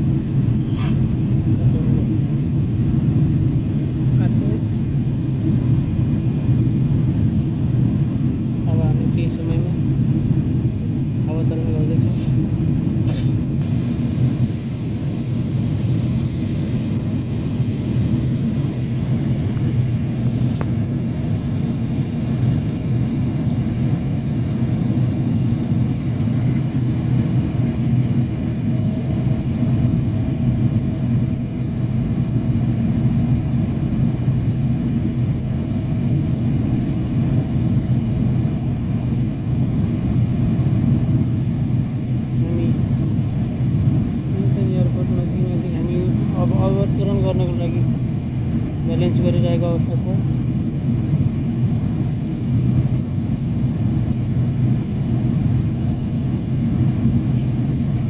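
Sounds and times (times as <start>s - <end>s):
faint steady hum: 0.0s - 58.0s
jet engine and air roar: 0.0s - 58.0s.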